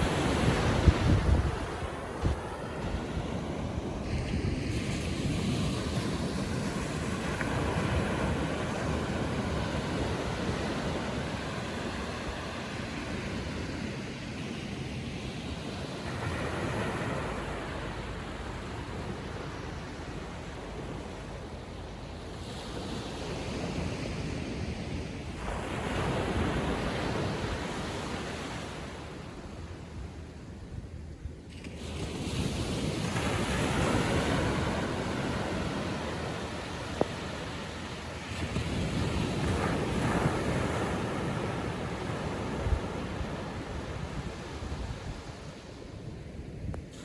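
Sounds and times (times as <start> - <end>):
small waves breaking on beach: 0.0 - 30.0, 31.5 - 47.0.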